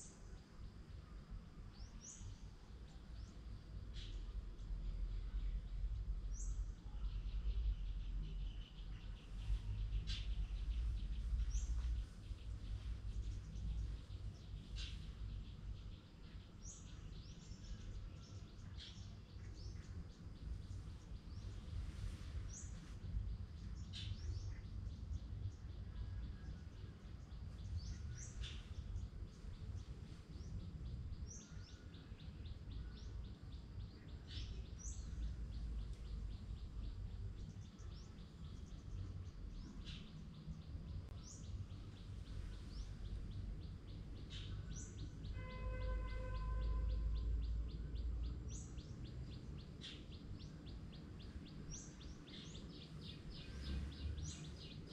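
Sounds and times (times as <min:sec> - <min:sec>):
low background rumble: 0:00.0 - 0:54.9
birds chirping: 0:05.2 - 0:54.9.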